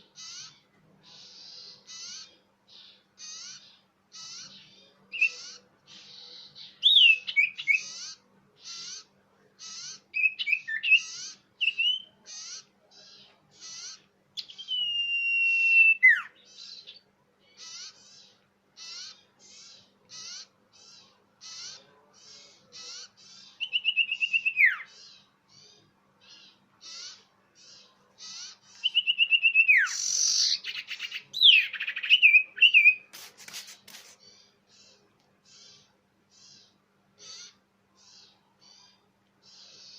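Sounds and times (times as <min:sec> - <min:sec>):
bird chattering: 0:00.0 - 0:14.6, 0:16.6 - 0:39.9
bird chirps: 0:00.0 - 0:39.9.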